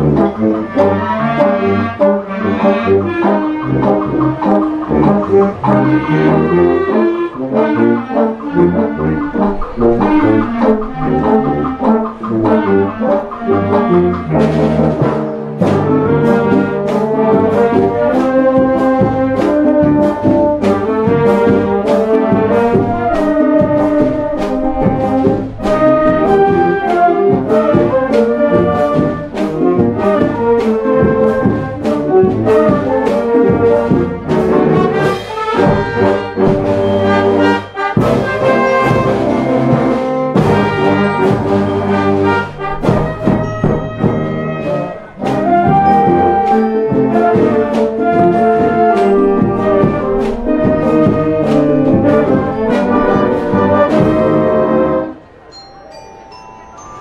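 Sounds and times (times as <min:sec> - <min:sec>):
brass and saxophones melody: 0:00.0 - 0:56.0
drum and cymbal beat: 0:02.9 - 0:54.6.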